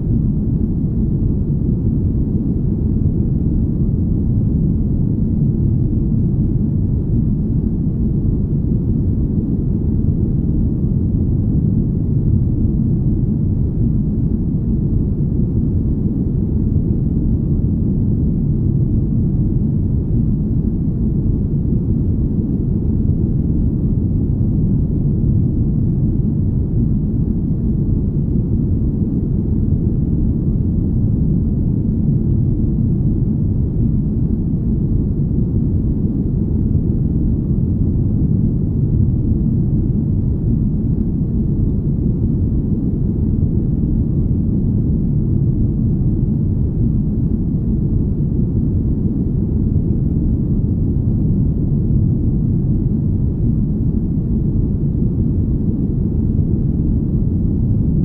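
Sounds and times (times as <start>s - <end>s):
deep low rumble hum: 0.0s - 58.0s.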